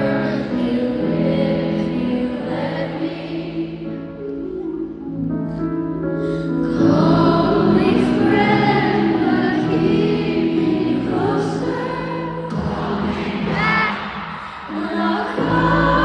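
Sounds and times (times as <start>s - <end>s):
women singing choir harmonies: 0.0s - 5.0s, 6.6s - 16.0s.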